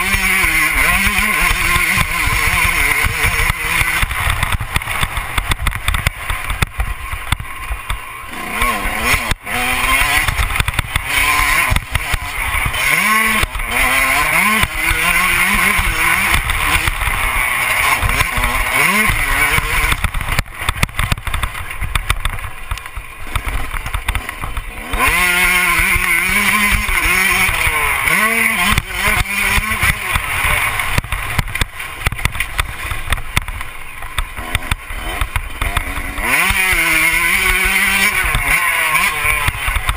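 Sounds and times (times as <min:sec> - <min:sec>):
motorbike engine revving hard: 0:00.0 - 0:39.9.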